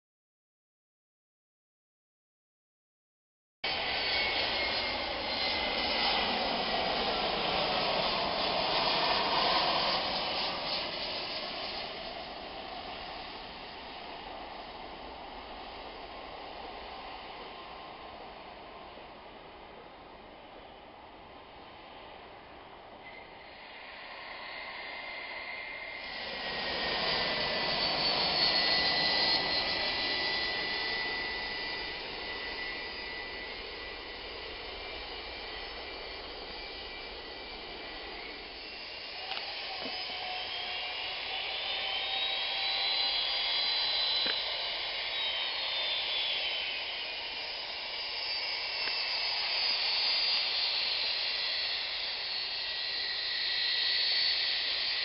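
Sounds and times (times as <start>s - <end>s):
distant jet engines whining: 3.6s - 55.0s.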